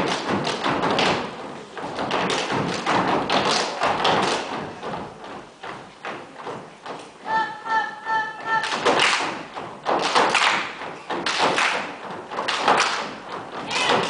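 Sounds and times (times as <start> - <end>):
boots stomping on wooden stage: 0.0 - 7.4, 8.4 - 14.0.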